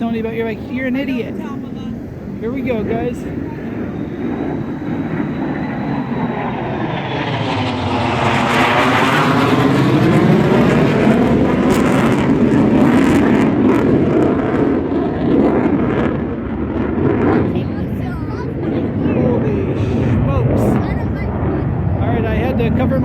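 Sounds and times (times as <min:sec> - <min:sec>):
fighter jet passing overhead: 0:00.0 - 0:23.0.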